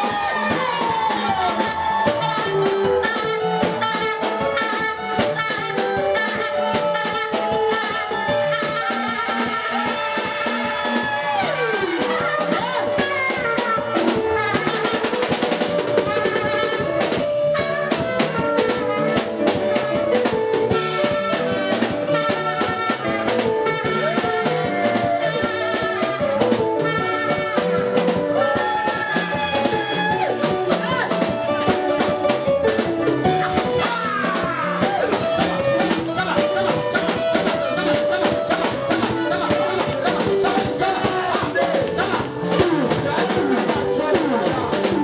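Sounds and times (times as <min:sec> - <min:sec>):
drum kit beat: 0:00.0 - 0:45.0
gliding lead melody: 0:00.0 - 0:45.0.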